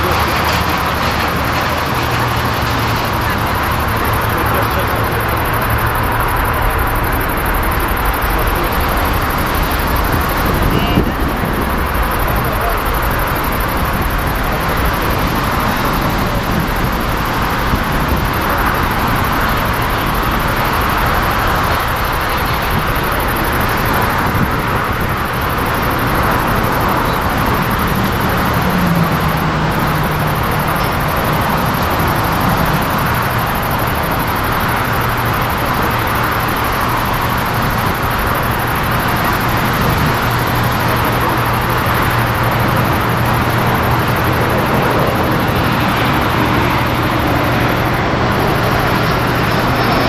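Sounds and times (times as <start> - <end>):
jet engines at takeoff: 0.0 - 50.0.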